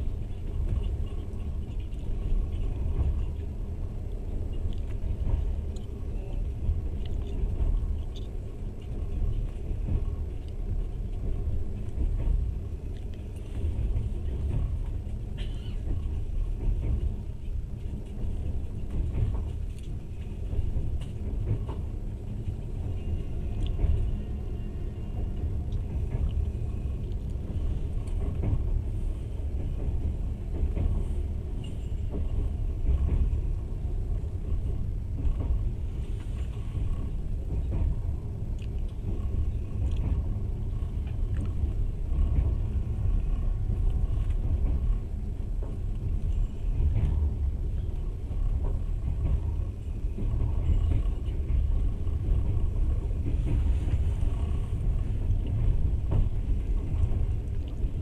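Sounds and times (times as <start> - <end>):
faint clicks and rattles: 0.0 - 58.0
train wheels rumbling on rails: 0.0 - 58.0.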